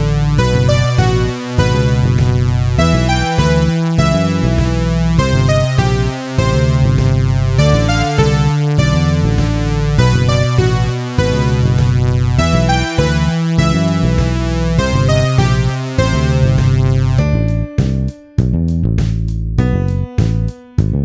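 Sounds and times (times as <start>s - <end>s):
sustained synth chords: 0.0s - 17.7s.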